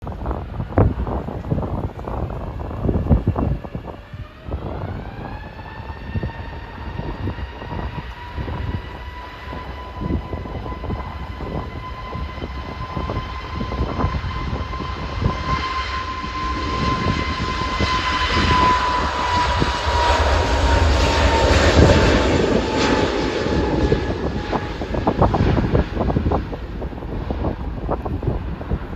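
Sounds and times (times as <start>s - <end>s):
jet roar: 0.0s - 28.9s
wind buffeting microphone: 0.0s - 28.9s
jet engines whining: 0.1s - 28.9s.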